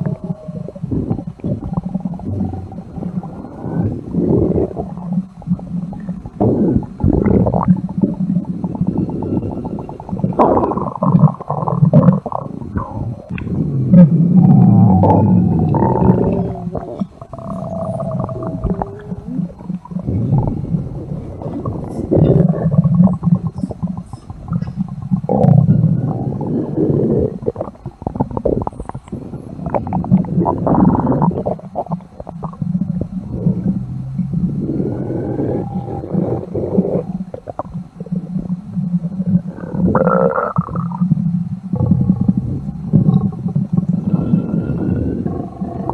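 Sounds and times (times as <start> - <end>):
growling stomach: 0.0 - 45.9.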